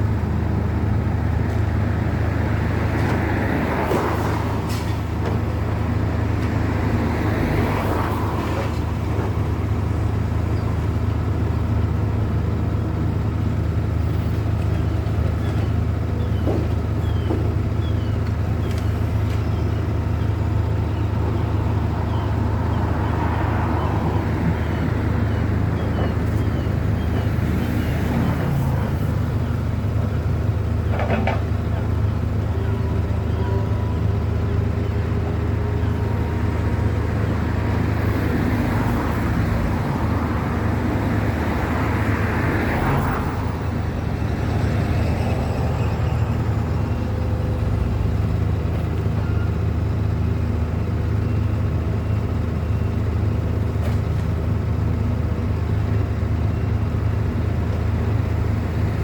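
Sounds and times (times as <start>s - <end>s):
vehicle engine drone: 0.0s - 59.0s.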